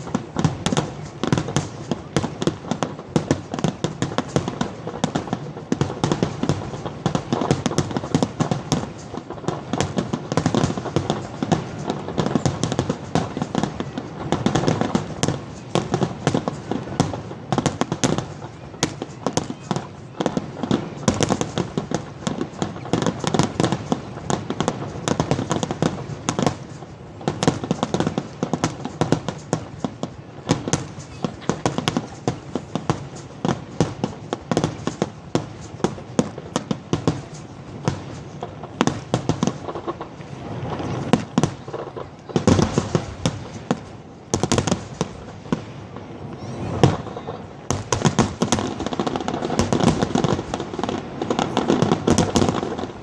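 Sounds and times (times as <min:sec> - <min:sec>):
distant fireworks bursts and crackling: 0:00.0 - 0:53.0.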